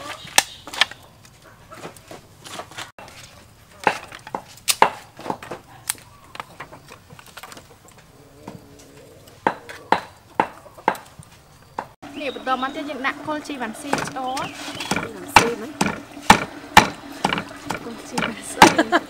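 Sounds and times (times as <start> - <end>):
firewood knocking against metal grate: 1.7 - 12.0, 13.2 - 19.0.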